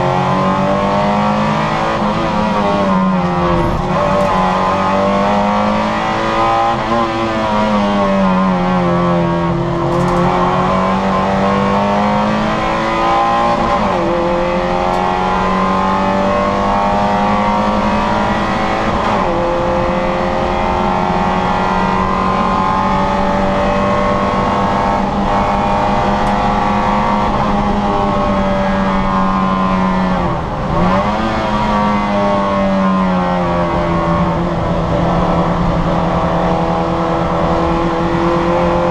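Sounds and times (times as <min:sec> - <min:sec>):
car engine revving at high revs: 0:00.0 - 0:38.9.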